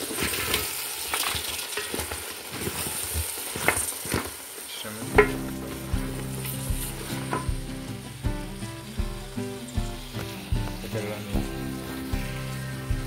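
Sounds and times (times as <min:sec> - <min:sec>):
stew sizzling in a pot: 0:00.0 - 0:13.0.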